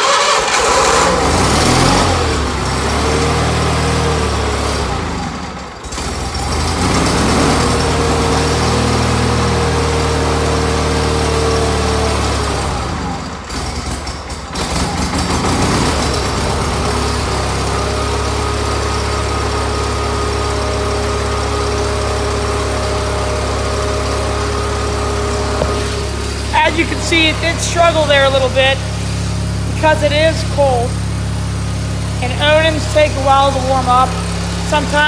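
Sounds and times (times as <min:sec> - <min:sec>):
engine running unevenly: 0:00.0 - 0:35.0.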